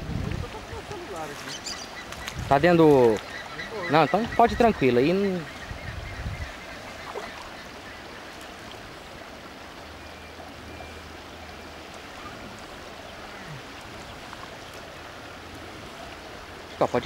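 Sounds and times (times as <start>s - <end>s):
water swishing from wading: 0.0s - 17.0s.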